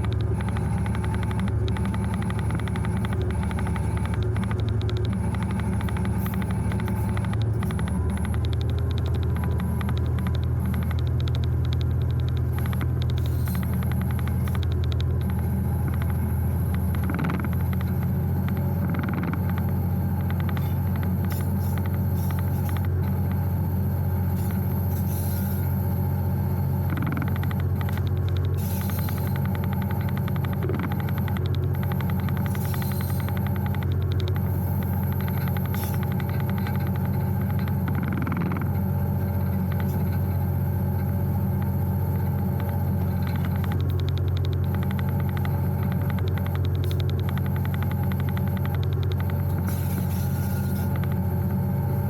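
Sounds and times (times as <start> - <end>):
fast ticking rattle: 0.0 - 23.4, 25.9 - 51.6
diesel locomotive engine: 0.0 - 52.0
rapid clicking: 0.0 - 52.0.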